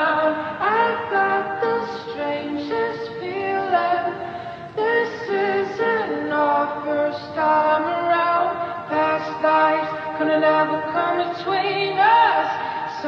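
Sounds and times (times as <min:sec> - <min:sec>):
song with sung vocals: 0:00.0 - 0:13.0.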